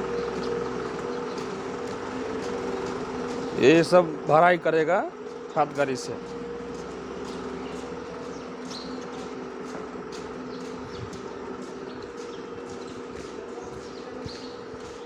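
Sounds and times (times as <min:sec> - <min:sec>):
birds chirping: 0:00.0 - 0:15.0
machine hum: 0:00.0 - 0:15.0.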